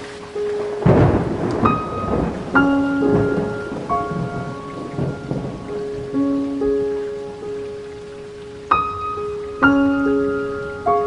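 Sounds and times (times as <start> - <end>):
soft piano notes: 0.0 - 11.0
steady rain: 0.0 - 11.0.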